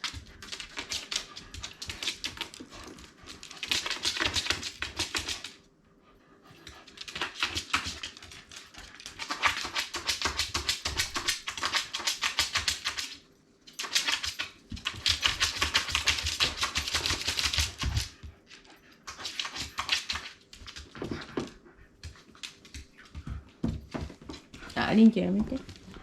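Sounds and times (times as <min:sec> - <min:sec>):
dog claws scrabbling on hard floor: 0:00.0 - 0:05.6, 0:06.5 - 0:26.0.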